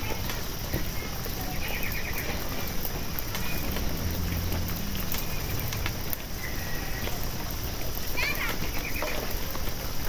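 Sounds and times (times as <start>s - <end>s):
water spraying onto leaves: 0.0s - 10.0s.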